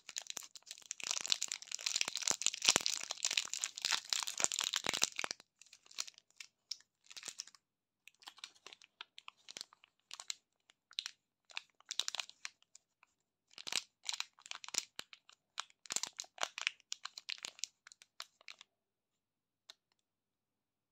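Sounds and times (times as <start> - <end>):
candy wrappers crinkling: 0.0 - 10.4, 11.0 - 12.6, 13.6 - 18.6.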